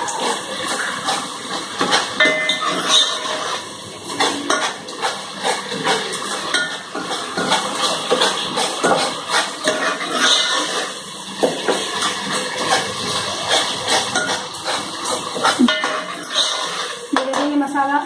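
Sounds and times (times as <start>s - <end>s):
metal spoon scraping a pot: 0.0s - 11.0s, 11.6s - 17.8s
masala frying in oil: 0.0s - 18.0s.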